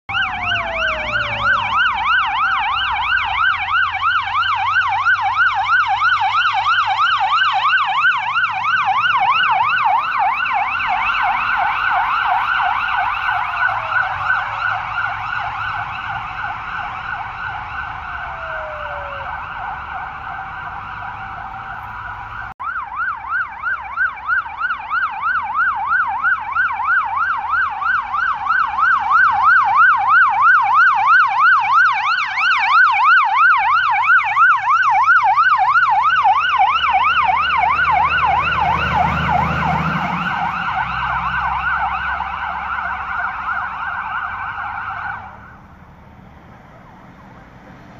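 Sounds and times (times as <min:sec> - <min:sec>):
diesel truck engine: 0:00.0 - 0:47.9
fire engine siren yelping: 0:00.0 - 0:47.9.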